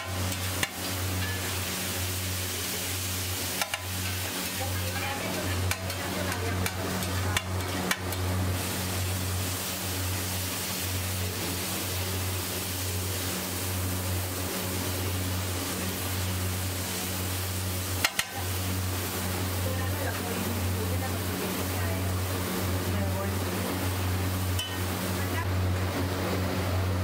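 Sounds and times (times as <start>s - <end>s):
egg sizzling on griddle: 0.0s - 25.4s.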